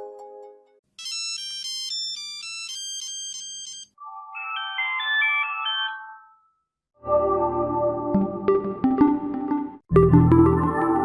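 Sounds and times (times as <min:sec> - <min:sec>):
phone startup jingle: 0:01.0 - 0:11.0.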